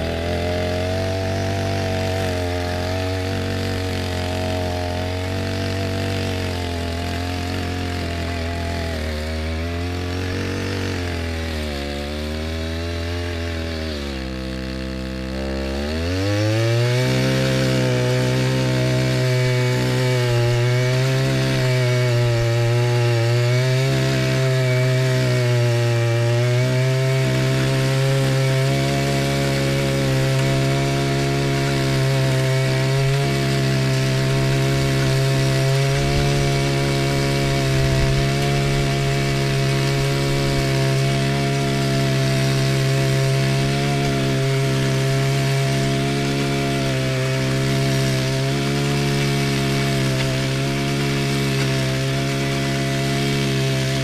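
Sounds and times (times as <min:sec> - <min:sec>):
garden tiller engine running: 0:00.0 - 0:54.0.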